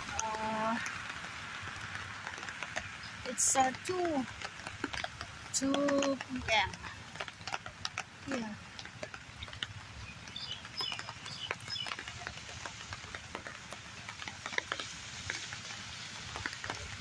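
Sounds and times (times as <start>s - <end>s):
drops ticking: 0.0s - 17.0s
heavy rain falling: 0.0s - 17.0s.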